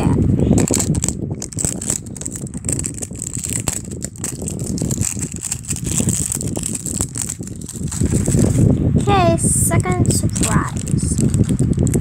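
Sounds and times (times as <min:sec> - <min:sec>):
plastic wrapper crinkling: 0:00.6 - 0:09.1, 0:09.8 - 0:12.0.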